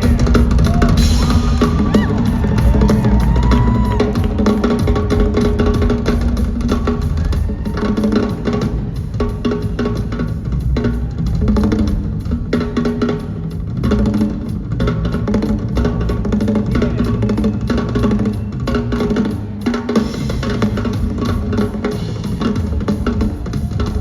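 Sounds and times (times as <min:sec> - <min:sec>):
drum kit solo: 0:00.0 - 0:24.0.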